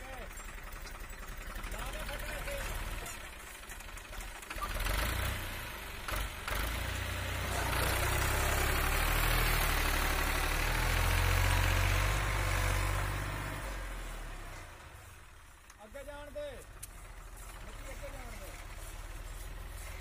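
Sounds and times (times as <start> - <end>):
tractor diesel engine pulling hard: 0.0 - 20.0.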